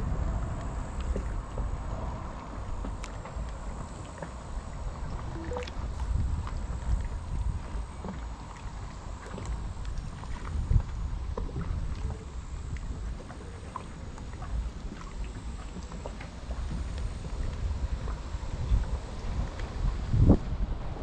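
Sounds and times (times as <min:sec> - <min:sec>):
gusty wind rumble on microphone: 0:00.0 - 0:21.0
water lapping at boat hull: 0:00.0 - 0:21.0.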